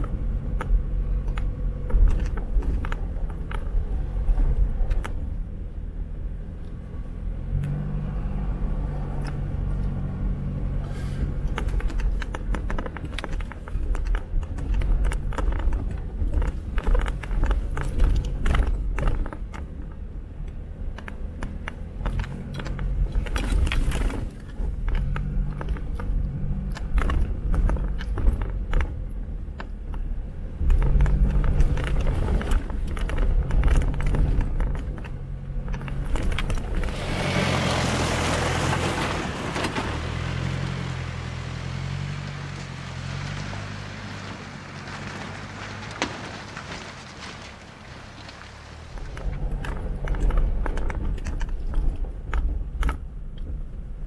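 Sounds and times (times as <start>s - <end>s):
car engine under changing load: 0.0s - 54.0s.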